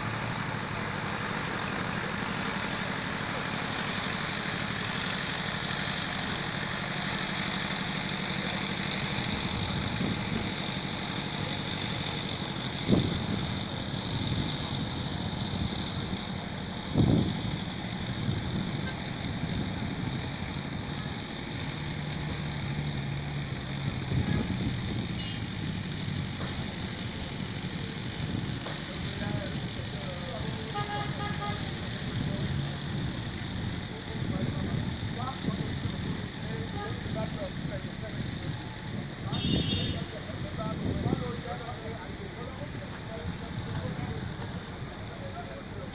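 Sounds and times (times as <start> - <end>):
low engine hum: 0.0 - 45.9
road traffic noise: 0.0 - 45.9.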